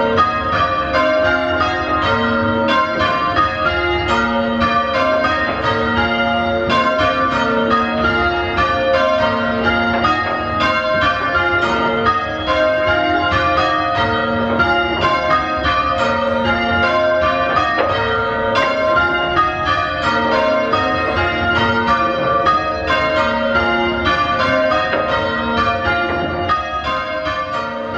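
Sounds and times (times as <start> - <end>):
church bells ringing: 0.0 - 27.9.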